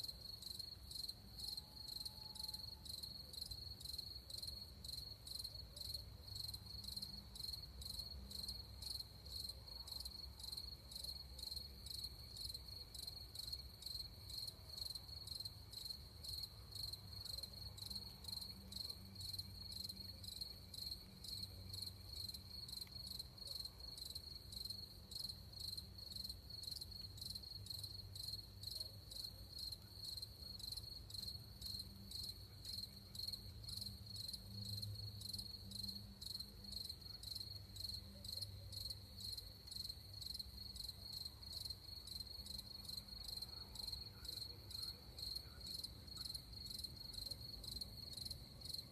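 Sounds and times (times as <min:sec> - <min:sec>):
crickets chirping: 0:00.1 - 0:48.9.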